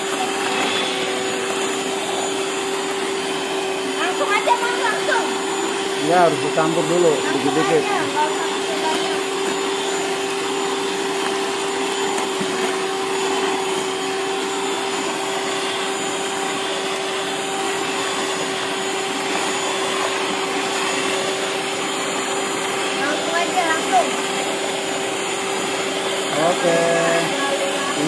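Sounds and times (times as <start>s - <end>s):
electric mixer churning batter: 0.0s - 28.0s.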